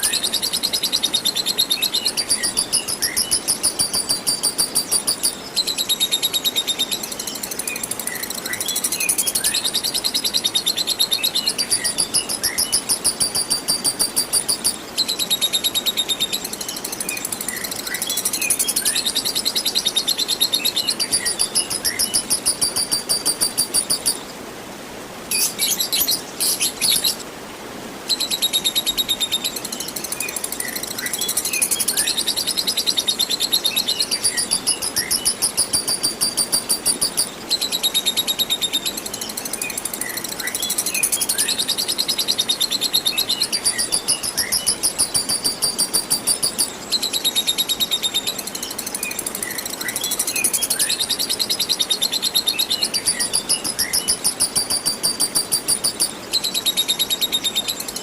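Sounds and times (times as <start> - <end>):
running water hiss: 0.0 - 58.0.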